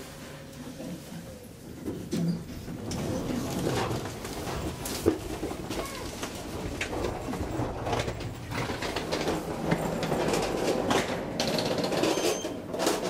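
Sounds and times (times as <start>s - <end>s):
train rumbling on rails: 0.0s - 13.0s
irregular clatter: 2.1s - 13.0s.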